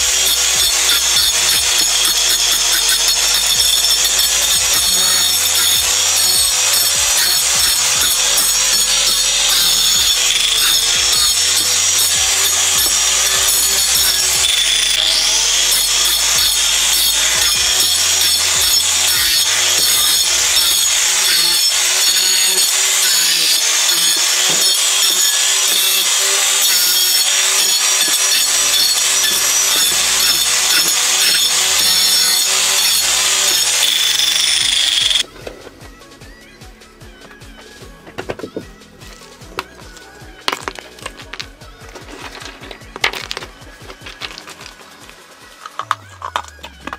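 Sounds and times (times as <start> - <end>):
angle grinder cutting ice: 0.0 - 35.4, 39.0 - 46.9.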